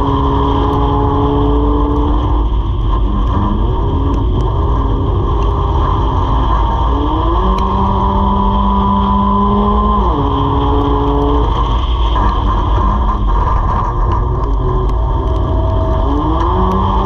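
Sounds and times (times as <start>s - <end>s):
race car engine: 0.0s - 17.0s.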